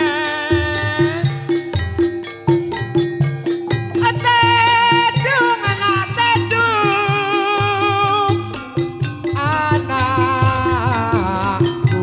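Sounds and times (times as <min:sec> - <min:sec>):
drum beat: 0:00.0 - 0:12.0
rattling shaker: 0:00.0 - 0:12.0
wavering held melody: 0:00.0 - 0:12.0.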